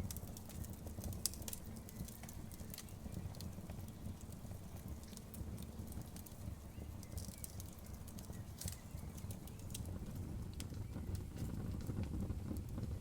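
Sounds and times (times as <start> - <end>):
bonfire snaps and pops: 0.0 - 13.0
low rumble of flames: 0.0 - 13.0.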